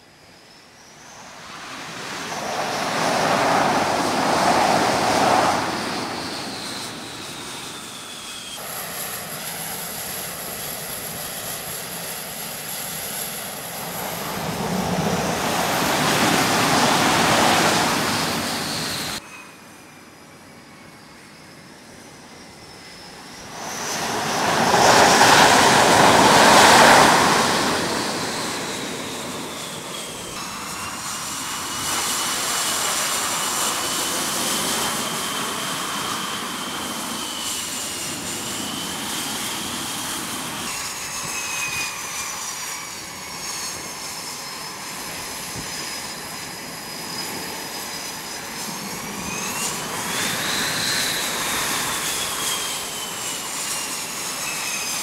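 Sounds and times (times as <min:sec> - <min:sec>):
loud rush of jet noise: 0:00.0 - 0:19.3, 0:22.3 - 0:55.0
jet engines whining: 0:00.0 - 0:55.0.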